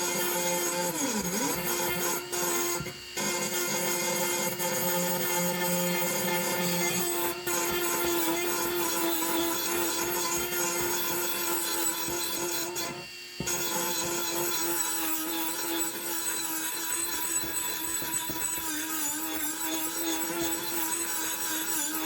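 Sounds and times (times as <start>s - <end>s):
power tool humming: 0.0s - 22.0s.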